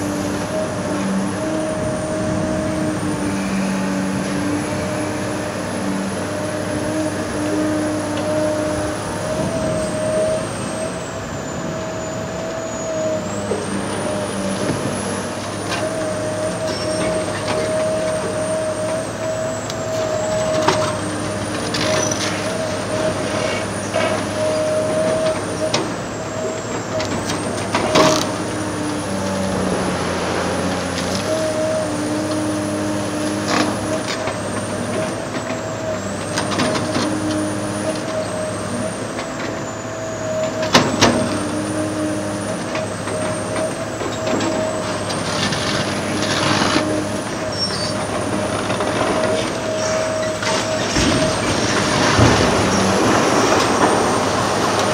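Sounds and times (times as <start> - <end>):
excavator engine droning: 0.0 - 54.9.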